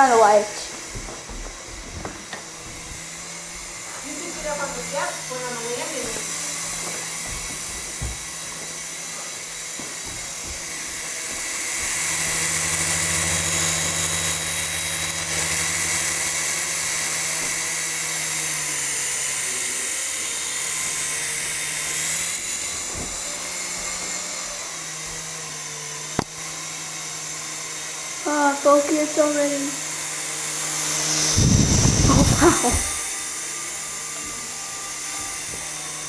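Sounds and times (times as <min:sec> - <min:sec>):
rc helicopter motor whine: 0:00.0 - 0:36.0.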